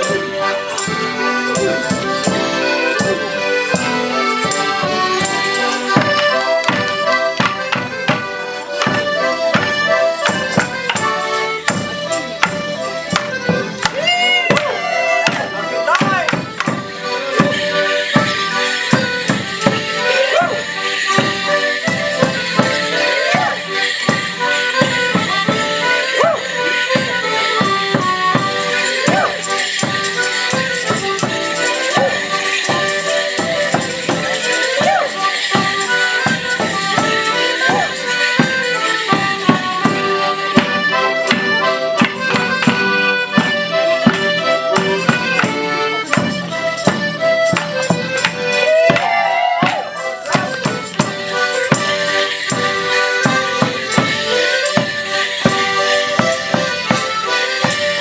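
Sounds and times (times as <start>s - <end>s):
accordion folk band: 0.0s - 58.0s
jingling bells: 0.0s - 58.0s.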